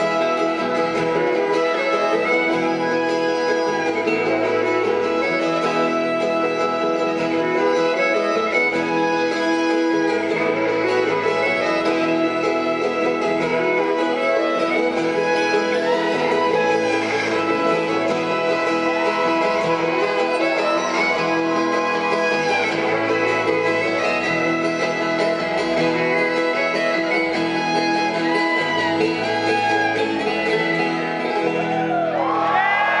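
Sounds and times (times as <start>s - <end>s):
acoustic guitar: 0.0s - 33.0s
banjo: 0.0s - 33.0s
fiddle: 0.0s - 33.0s
mandolin: 0.0s - 33.0s.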